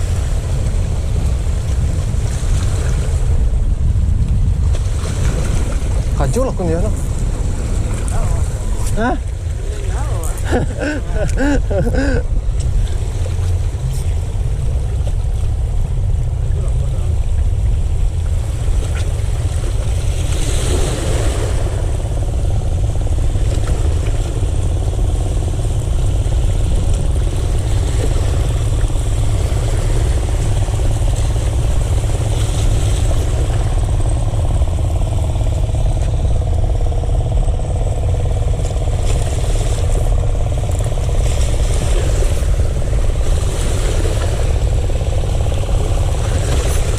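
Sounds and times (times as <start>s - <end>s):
engine rumbling steadily: 0.0s - 46.9s.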